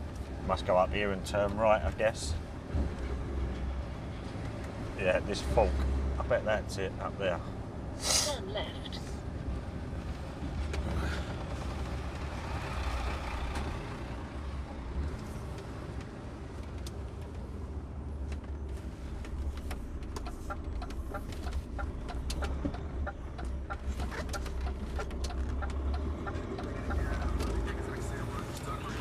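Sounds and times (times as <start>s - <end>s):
lorry diesel engine running: 0.0s - 29.0s.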